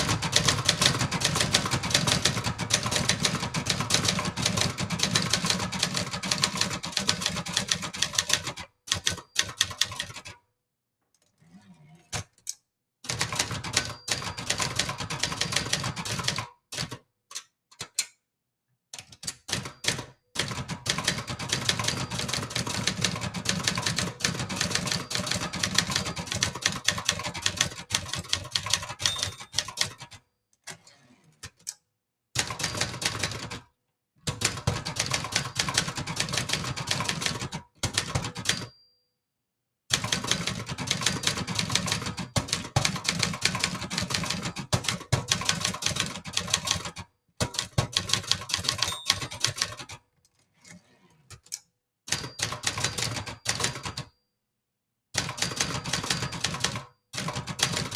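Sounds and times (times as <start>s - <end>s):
manual typewriter typing: 0.0s - 10.4s, 13.1s - 18.0s, 19.0s - 30.8s, 32.4s - 38.8s, 39.9s - 50.0s, 51.4s - 54.1s, 55.2s - 57.9s.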